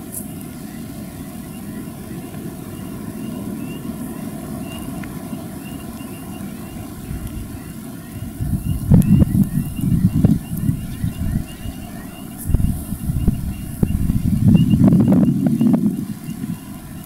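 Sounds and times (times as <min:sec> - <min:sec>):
diesel locomotive engine drone: 0:00.0 - 0:17.0.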